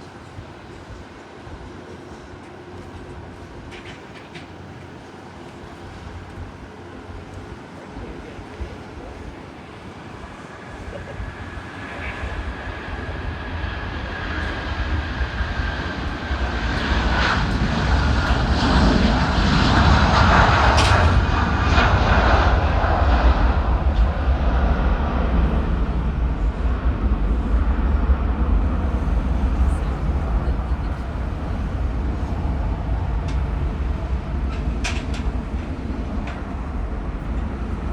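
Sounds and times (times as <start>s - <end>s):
jet airliner engines roaring: 0.0s - 37.9s.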